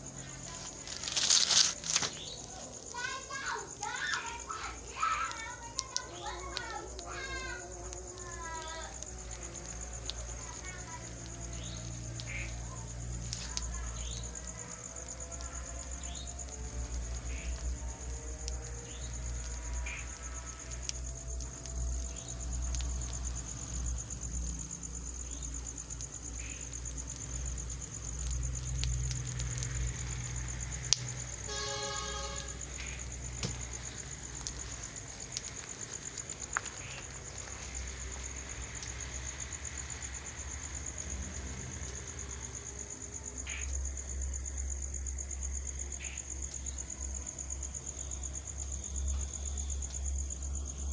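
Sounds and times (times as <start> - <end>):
insects chirring: 0.0 - 50.9.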